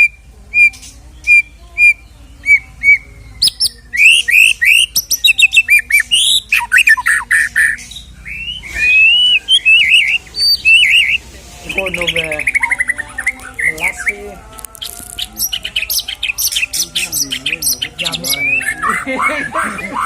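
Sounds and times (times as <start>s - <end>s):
songbird whistling and trilling: 0.0s - 20.0s.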